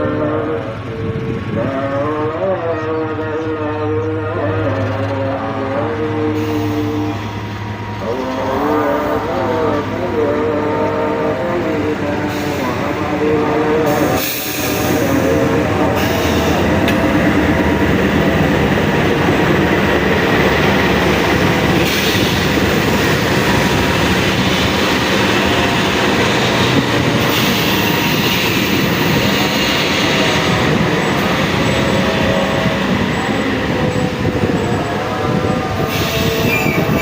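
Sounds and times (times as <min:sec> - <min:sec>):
train rumbling past on rails: 0:00.0 - 0:37.0.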